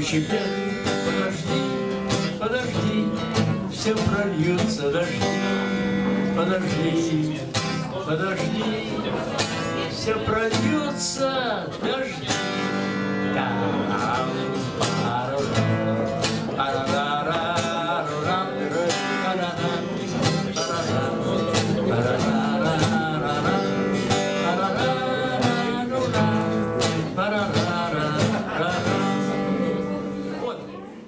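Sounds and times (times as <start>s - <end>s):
man singing blues: 0.0s - 30.8s
acoustic guitar strumming: 0.0s - 31.0s.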